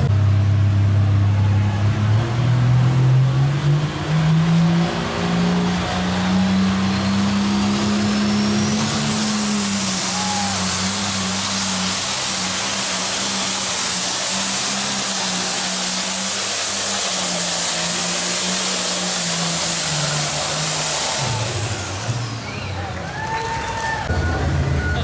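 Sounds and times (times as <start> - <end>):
diesel engine revving under load: 0.0 - 25.0.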